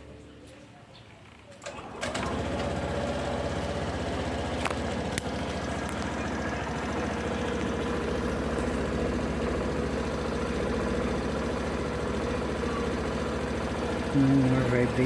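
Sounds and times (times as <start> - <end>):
scooter engine idling: 1.7 - 15.0.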